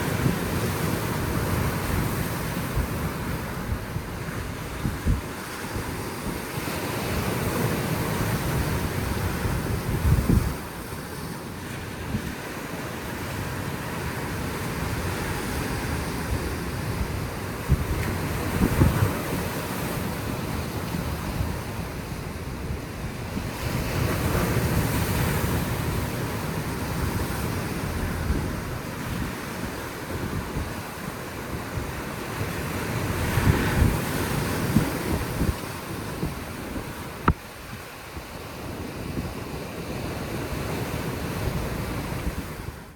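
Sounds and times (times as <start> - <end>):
sea surf washing onto shore: 0.0 - 42.9
wind rumbling on microphone: 0.0 - 42.9.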